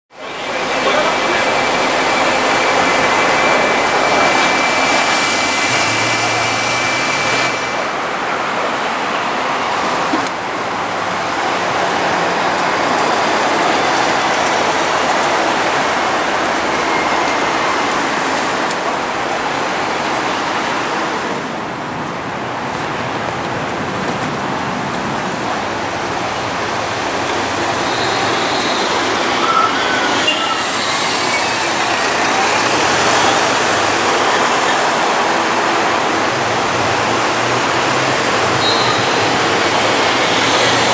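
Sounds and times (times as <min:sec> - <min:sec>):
buses driving past: 0:00.1 - 0:40.9
engine and tyre noise: 0:00.1 - 0:40.9.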